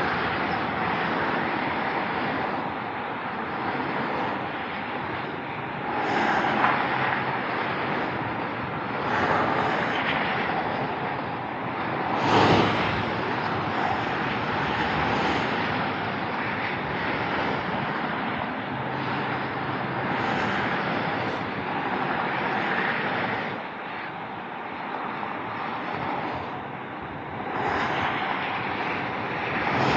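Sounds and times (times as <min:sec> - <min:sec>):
highway traffic rushing past: 0:00.0 - 0:29.9.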